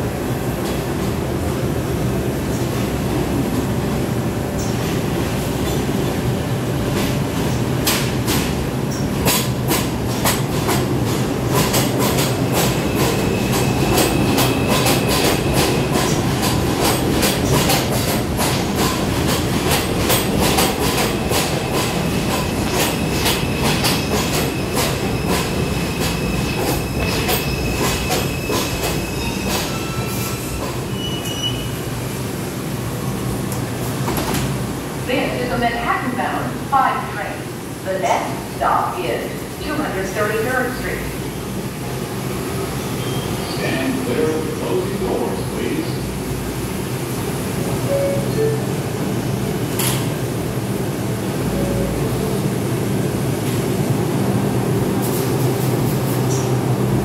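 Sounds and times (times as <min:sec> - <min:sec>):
subway train rumble: 0:00.0 - 0:57.0.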